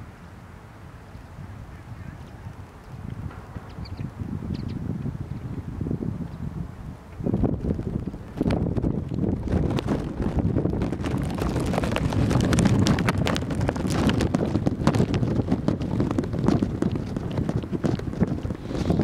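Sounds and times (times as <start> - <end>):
turboprop airliner rumble: 0.0 - 19.0
wind buffeting microphone: 0.0 - 19.0.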